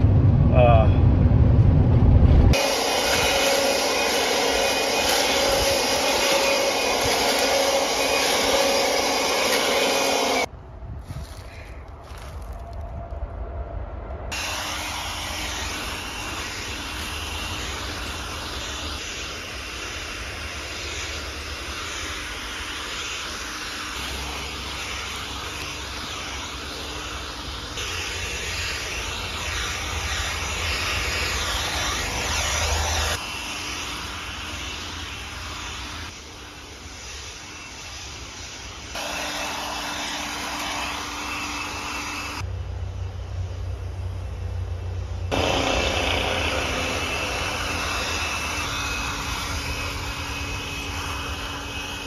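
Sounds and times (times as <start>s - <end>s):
leaf blower running: 2.5s - 10.5s, 14.3s - 42.5s, 45.2s - 52.0s.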